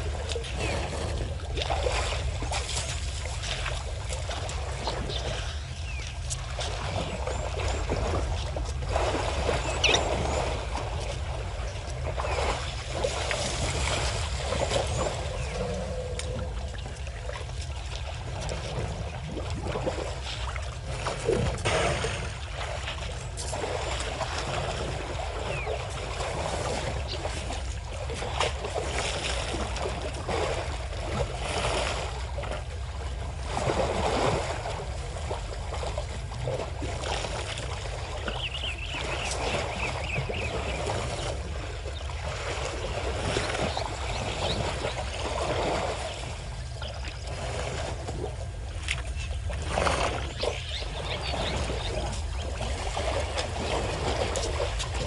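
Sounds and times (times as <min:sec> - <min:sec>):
elephants splashing water: 0:00.0 - 0:55.0.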